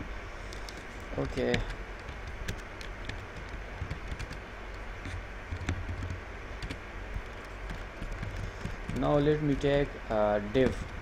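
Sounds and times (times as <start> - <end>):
steady low hum: 0.0 - 11.0
keyboard keys clicking: 0.6 - 9.6.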